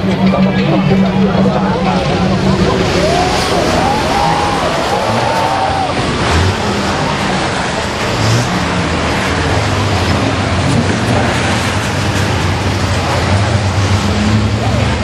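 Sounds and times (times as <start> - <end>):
dense rushing noise: 0.0 - 15.0
diesel truck engine droning: 0.0 - 15.0.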